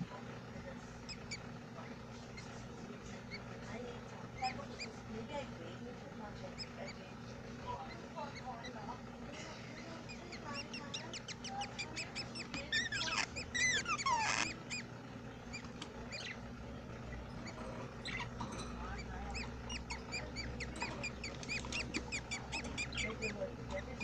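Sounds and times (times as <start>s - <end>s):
budgerigars chirping and chattering: 0.6s - 24.0s.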